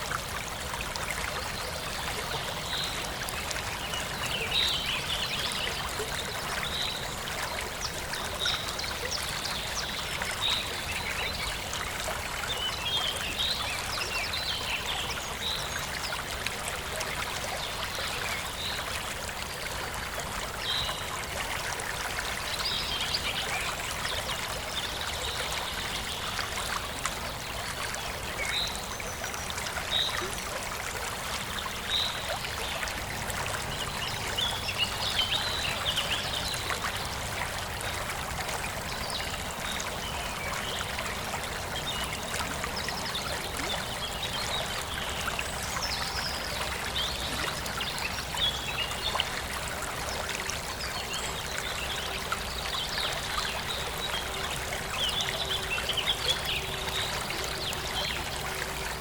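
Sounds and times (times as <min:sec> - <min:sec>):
stream running and trickling: 0:00.0 - 0:59.0.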